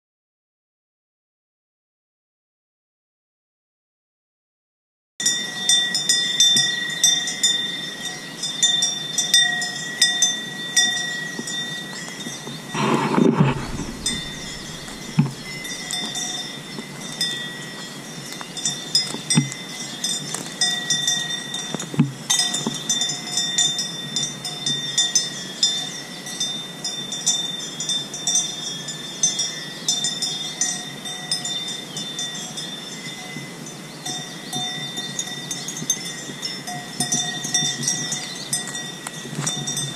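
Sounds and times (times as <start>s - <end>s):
livestock bells clanking: 5.2s - 39.9s.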